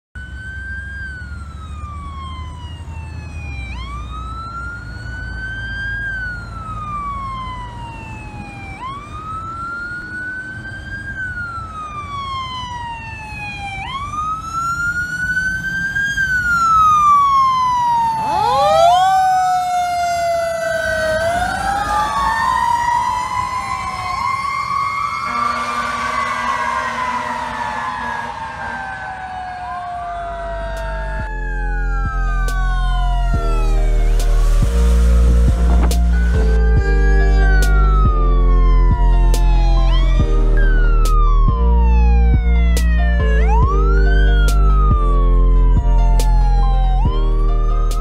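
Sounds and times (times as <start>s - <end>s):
fire truck siren wailing: 0.1s - 48.0s
sweeping siren tones: 0.2s - 48.0s.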